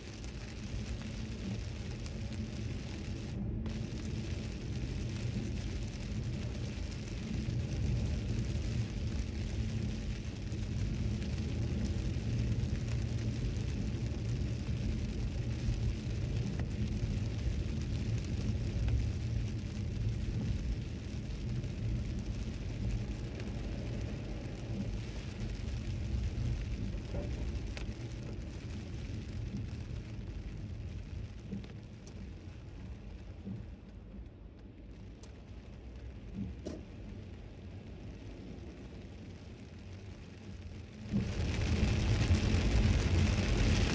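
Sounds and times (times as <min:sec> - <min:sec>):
rain: 0:00.0 - 0:43.9
tyres rumbling on wet road: 0:00.0 - 0:43.9.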